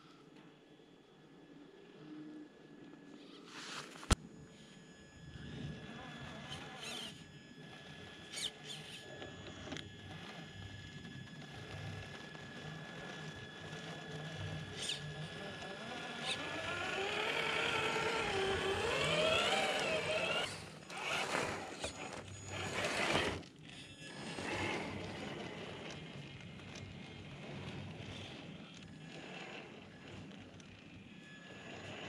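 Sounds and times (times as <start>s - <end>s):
electric motor and gears whining: 0.6s - 32.0s
tyres working through snow: 5.8s - 32.0s.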